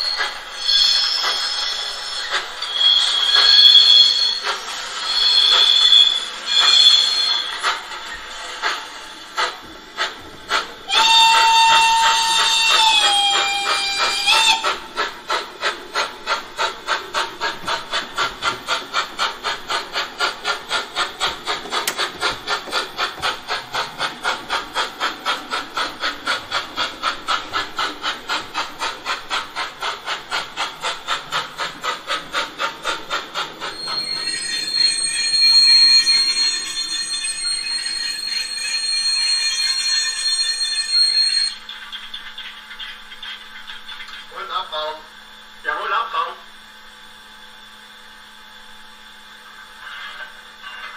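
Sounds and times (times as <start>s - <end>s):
steam hiss with high tone: 0.0s - 24.9s, 25.5s - 41.6s
model steam locomotive chuffing: 0.0s - 50.9s.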